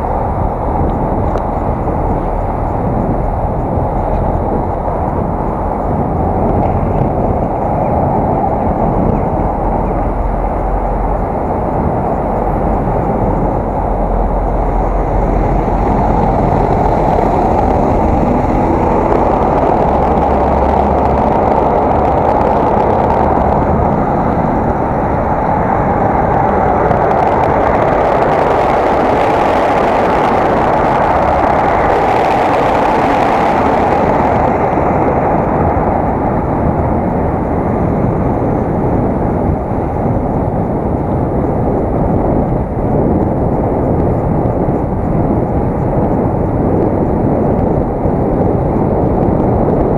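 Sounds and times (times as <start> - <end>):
bicycle rolling noise: 0.0 - 49.9
wind rushing: 0.0 - 49.9.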